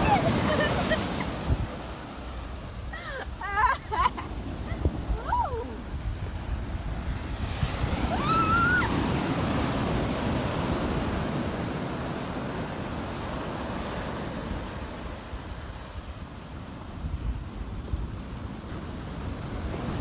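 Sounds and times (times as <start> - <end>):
sea waves on shore: 0.0 - 20.0.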